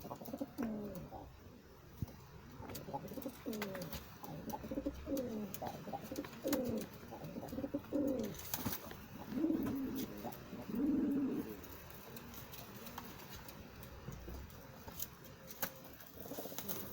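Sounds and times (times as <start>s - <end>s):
pigeons cooing: 0.0s - 1.8s, 2.4s - 14.6s, 15.9s - 16.9s.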